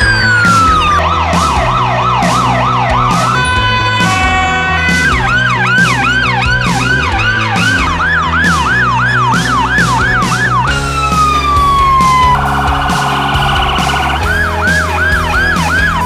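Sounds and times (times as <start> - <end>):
electronic siren yelping and wailing: 0.0 - 16.0
music with steady beat: 0.0 - 16.0.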